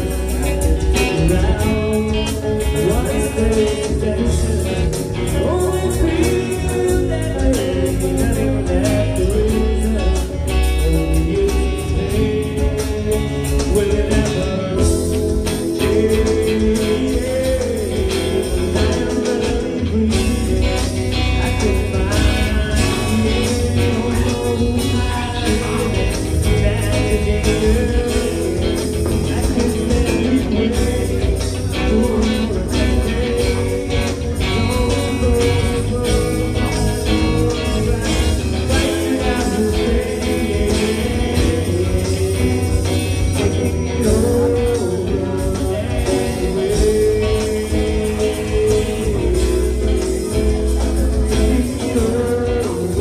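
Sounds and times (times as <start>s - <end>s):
electric guitars: 0.0s - 53.0s
live band playing: 0.0s - 53.0s
man singing: 0.0s - 53.0s.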